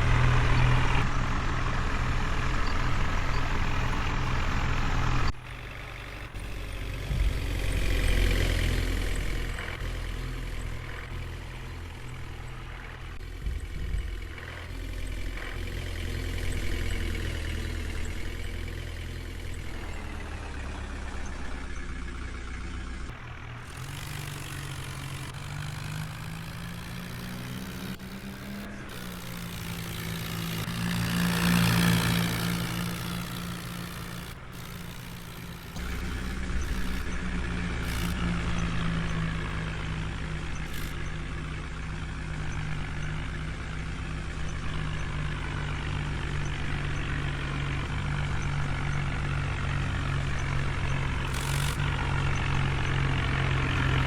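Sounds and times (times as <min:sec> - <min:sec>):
diesel engines working: 0:00.0 - 0:54.0
heavy low engine rumble: 0:00.0 - 0:54.0.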